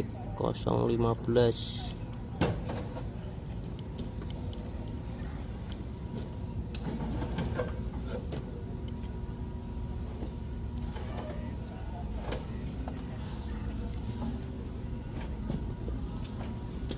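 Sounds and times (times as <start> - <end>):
diesel truck engine running: 0.0 - 16.9.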